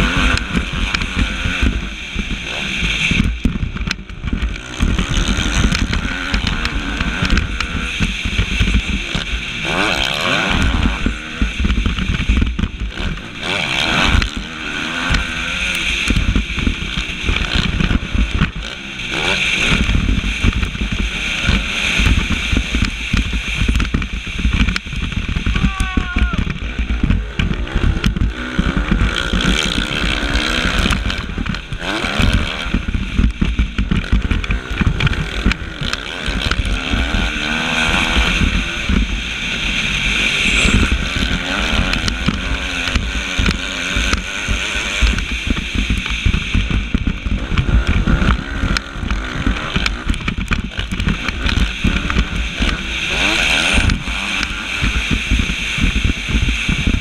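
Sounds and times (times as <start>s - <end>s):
knocks and buffeting on microphone: 0.0s - 57.0s
motocross bike engine racing: 0.0s - 57.0s.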